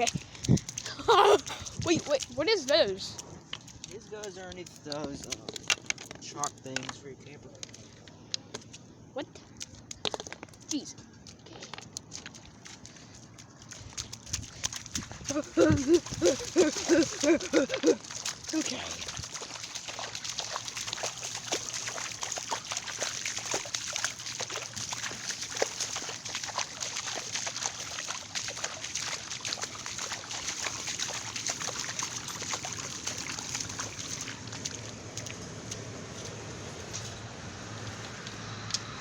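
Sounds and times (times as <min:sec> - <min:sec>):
floodwater sloshing and splashing: 0:00.0 - 0:39.0.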